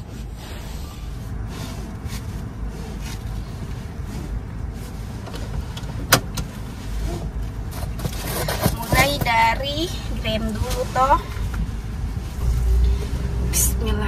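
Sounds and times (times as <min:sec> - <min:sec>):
seat belt rustling: 0:00.0 - 0:13.3
car engine idling: 0:00.0 - 0:14.0.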